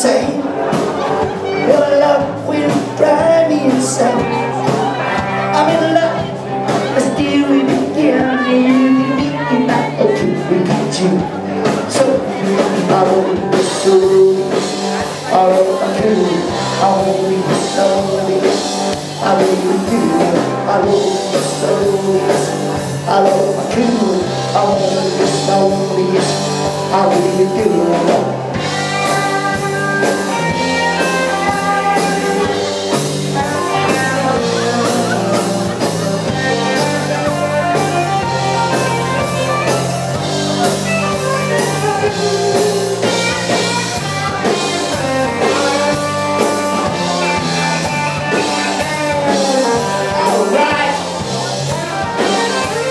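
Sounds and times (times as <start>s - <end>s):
bass guitar: 0.0s - 52.9s
drums: 0.0s - 52.9s
electric guitar: 0.0s - 52.9s
person singing lead vocal: 0.0s - 52.9s.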